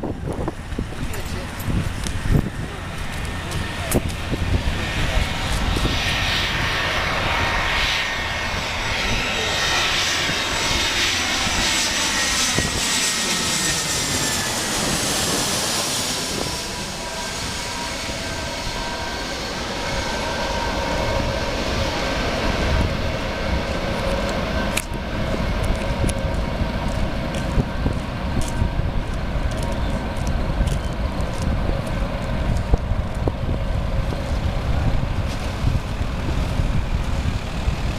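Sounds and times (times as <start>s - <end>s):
jet engines whining: 0.0s - 37.9s
wind buffeting microphone: 0.0s - 37.9s.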